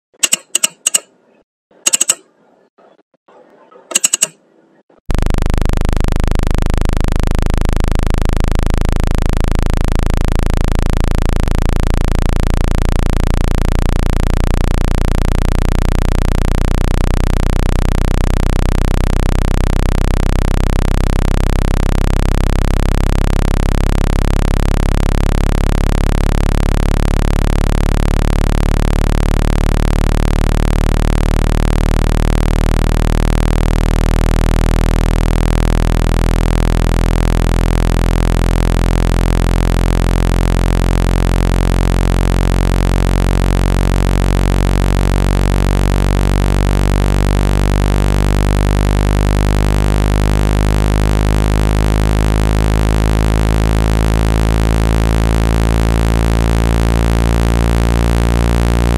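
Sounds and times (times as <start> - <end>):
pulsing low tones: 5.1 - 58.9.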